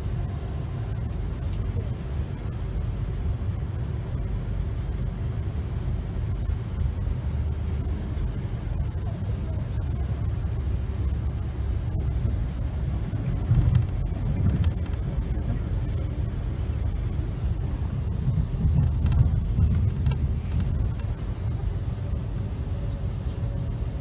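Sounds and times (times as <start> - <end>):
train rumble inside carriage: 0.0 - 24.0.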